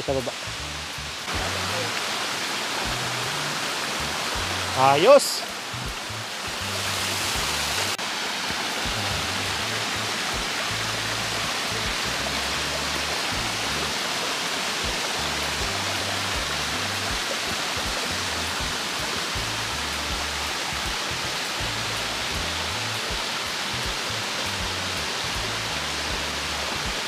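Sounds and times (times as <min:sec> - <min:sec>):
background music with bass line: 0:00.0 - 0:01.9, 0:02.9 - 0:05.0, 0:05.7 - 0:08.0, 0:08.8 - 0:14.2, 0:14.8 - 0:27.0
waterfall splashing into pool: 0:00.0 - 0:27.0.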